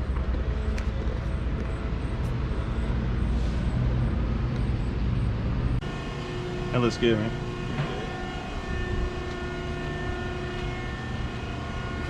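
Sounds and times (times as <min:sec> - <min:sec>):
train passing rumble: 0:00.0 - 0:12.0.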